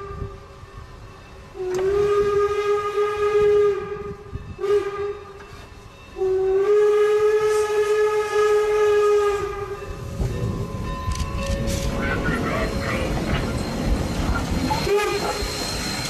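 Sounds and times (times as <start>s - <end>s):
steam locomotive whistle: 0.0s - 0.5s, 1.5s - 5.6s, 6.2s - 10.1s, 11.6s - 16.0s
locomotive rumble: 0.0s - 16.0s.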